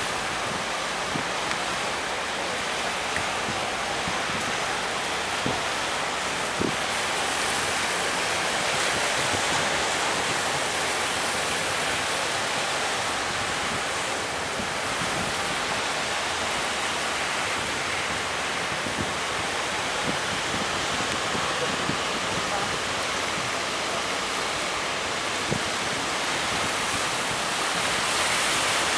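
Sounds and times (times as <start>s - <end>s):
surf and breaking waves: 0.0s - 28.9s
wind buffeting microphone: 0.0s - 28.9s.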